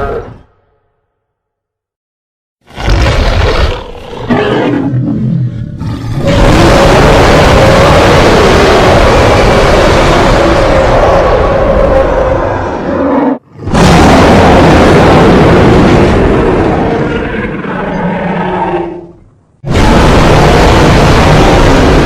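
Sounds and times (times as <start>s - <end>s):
growling monster roar: 2.7s - 22.0s.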